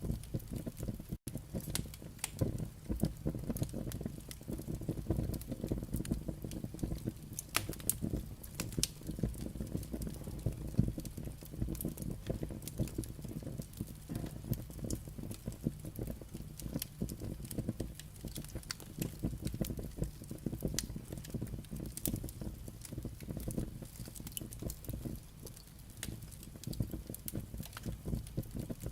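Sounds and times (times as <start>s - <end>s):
logs crackling and popping: 0.0s - 28.9s
low rumble of flame: 0.0s - 28.9s.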